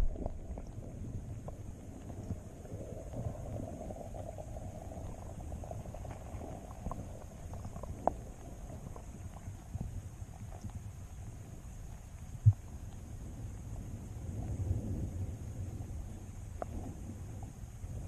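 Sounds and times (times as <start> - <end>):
faint clicks and ticks: 0.0 - 18.0
low underwater rumble: 0.0 - 18.0.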